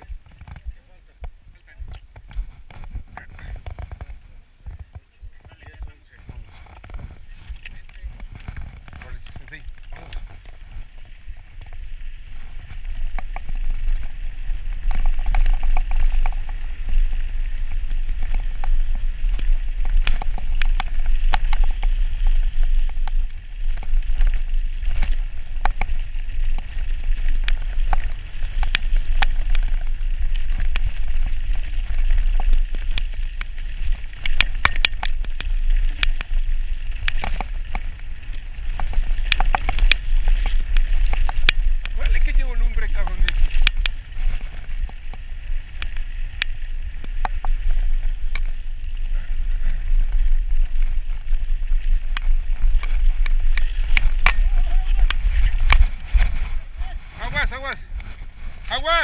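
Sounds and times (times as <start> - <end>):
bike rattling and clicking: 0.0 - 59.0
tyres on dirt: 0.0 - 59.0
wind on microphone: 0.0 - 59.0.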